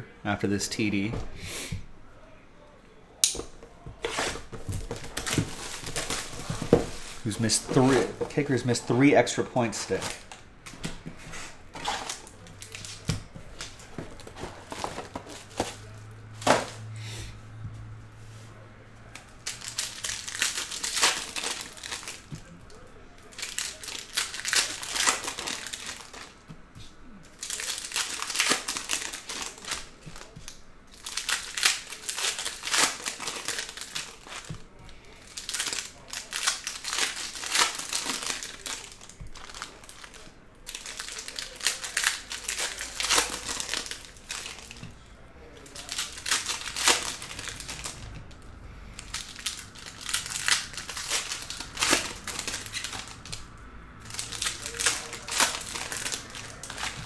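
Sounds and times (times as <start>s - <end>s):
foil wrappers crinkling: 3.4s - 16.7s, 19.1s - 26.5s, 27.3s - 48.2s, 48.9s - 57.0s.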